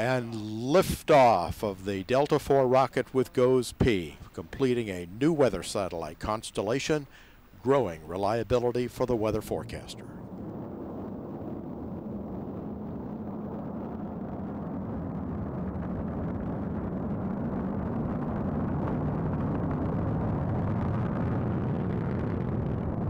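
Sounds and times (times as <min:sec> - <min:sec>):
rocket engine rumble: 0:00.0 - 0:23.0.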